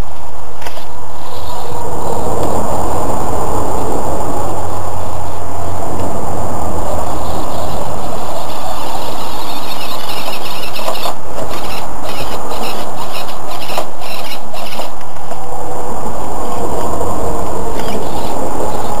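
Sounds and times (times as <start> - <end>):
loud rushing noise: 0.0 - 19.0.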